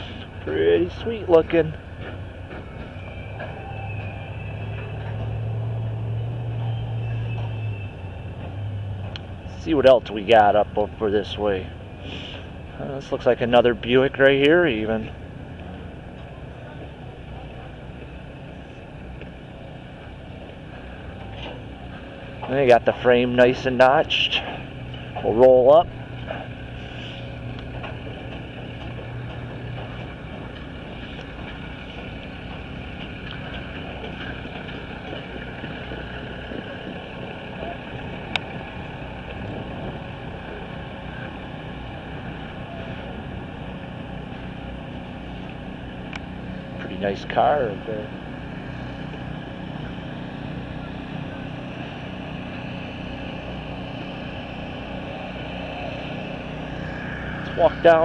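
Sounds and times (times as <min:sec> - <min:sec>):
engine rumbling: 0:00.0 - 0:58.0
motor hum: 0:00.0 - 0:58.0.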